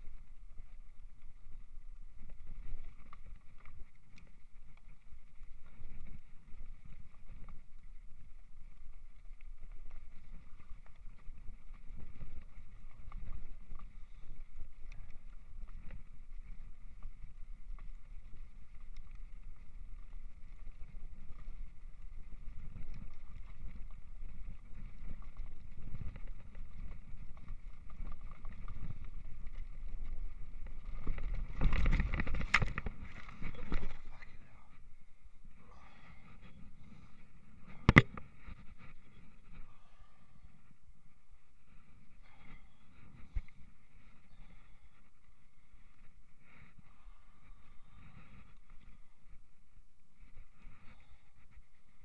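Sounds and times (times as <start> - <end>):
bike tyres rumbling on dirt: 0.0 - 52.0.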